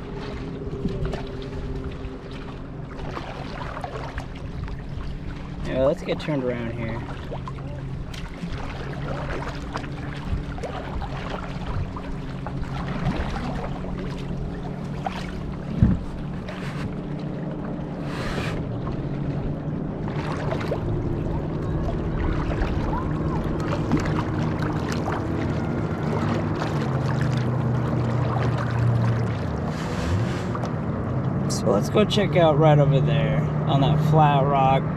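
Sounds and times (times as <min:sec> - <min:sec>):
paddle strokes splashing water: 0:00.0 - 0:32.8
low engine hum: 0:00.0 - 0:34.9.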